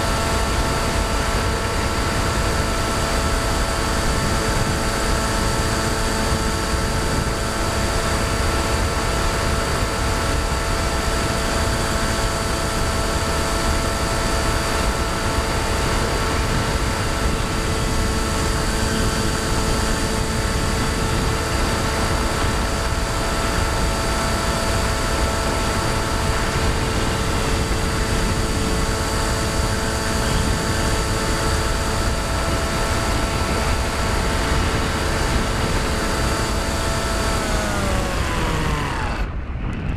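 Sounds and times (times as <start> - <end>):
electric motor and propeller whine: 0.0 - 39.9
wind on microphone: 0.0 - 39.9.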